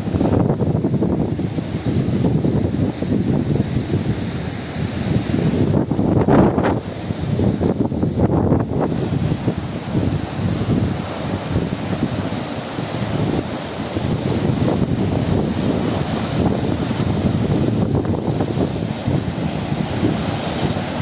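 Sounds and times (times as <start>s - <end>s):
heavy surf: 0.0s - 21.0s
strong wind on microphone: 0.0s - 21.0s.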